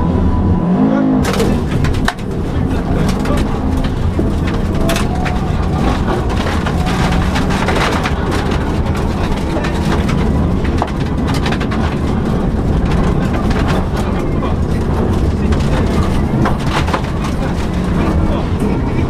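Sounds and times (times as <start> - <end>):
rally car engine running hard: 0.0 - 19.0
gravel striking car: 1.2 - 19.0.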